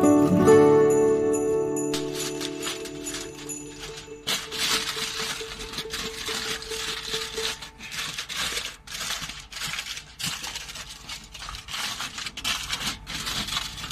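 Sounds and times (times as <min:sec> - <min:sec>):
aluminium foil crinkling: 0:01.8 - 0:13.9.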